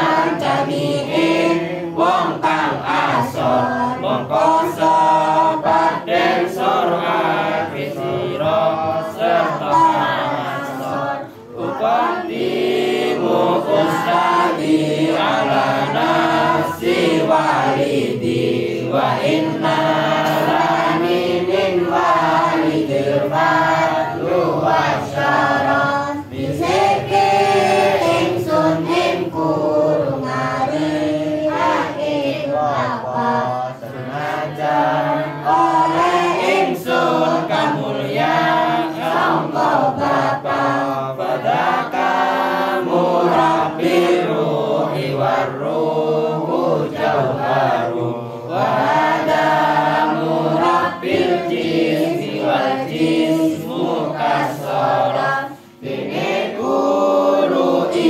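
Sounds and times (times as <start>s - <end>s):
children chanting in unison: 0.0s - 58.0s.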